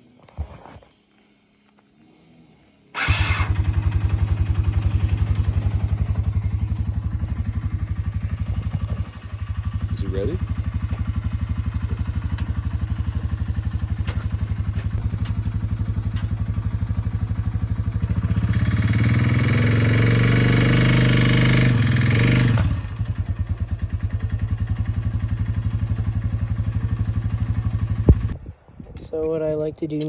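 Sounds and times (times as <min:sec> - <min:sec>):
atv engine idling and revving: 0:03.0 - 0:28.4.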